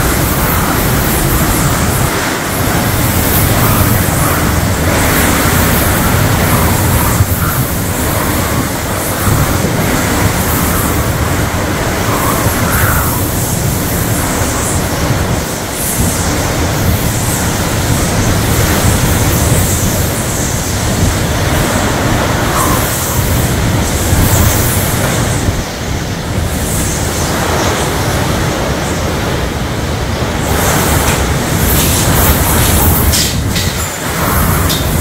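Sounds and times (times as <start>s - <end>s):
heavy rain: 0.0s - 35.0s
strong wind gusts: 0.0s - 35.0s.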